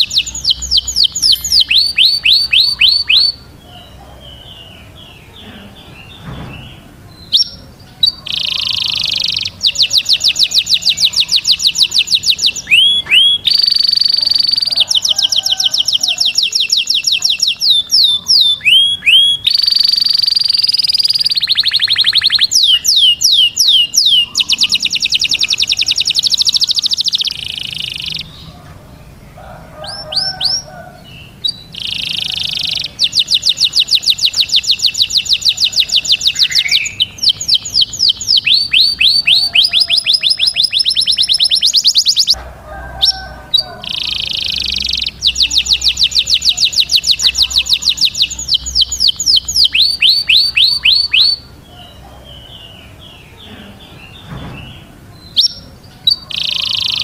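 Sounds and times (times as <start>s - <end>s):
soft bird chirps: 0.0s - 42.4s, 43.1s - 57.0s
canary singing trills: 0.0s - 57.0s.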